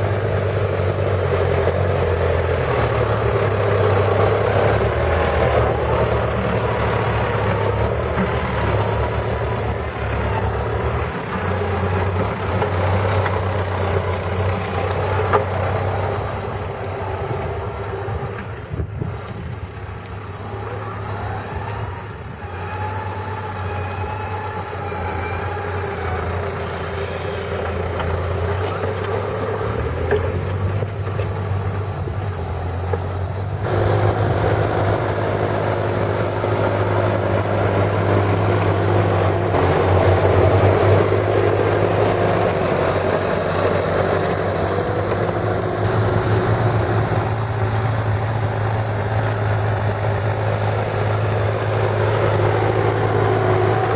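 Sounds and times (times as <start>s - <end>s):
tractor engine droning: 0.0s - 53.9s.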